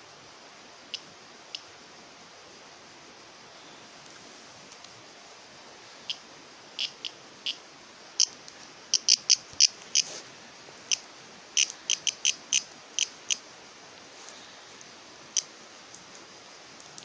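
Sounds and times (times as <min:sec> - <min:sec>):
cicada buzzy squawks: 0:00.0 - 0:17.0.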